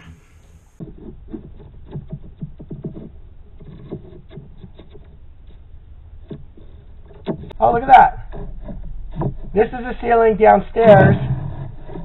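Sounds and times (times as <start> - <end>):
low hum: 0.0 - 12.0
probe scraping against wood: 0.0 - 12.0.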